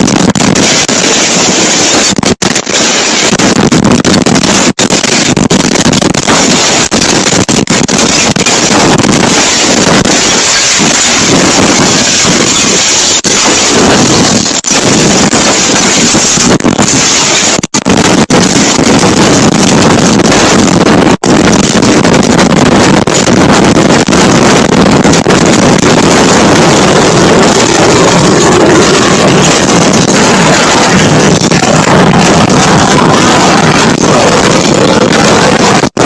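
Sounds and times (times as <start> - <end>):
wind blasting on microphone: 0.0 - 36.0.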